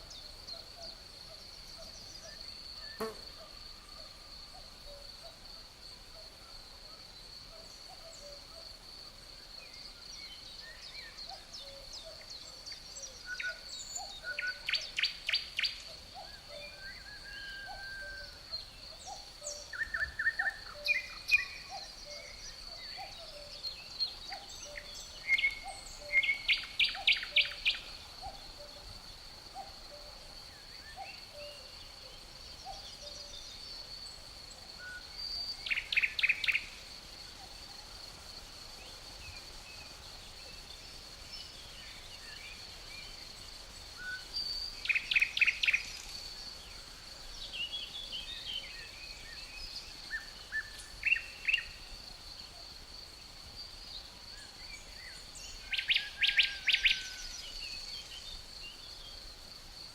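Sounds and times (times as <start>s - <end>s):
crickets trilling: 0.0s - 59.9s
songbirds calling: 9.6s - 59.9s.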